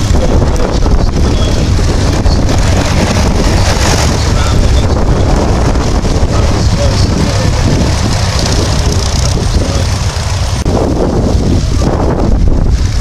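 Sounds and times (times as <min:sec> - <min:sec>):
propeller plane engines droning: 0:00.0 - 0:13.0
wind buffeting microphone: 0:00.0 - 0:13.0.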